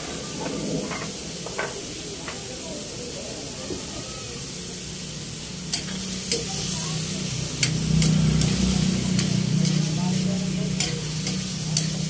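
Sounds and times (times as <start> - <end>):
pork sizzling in hot oil: 0.0 - 12.0.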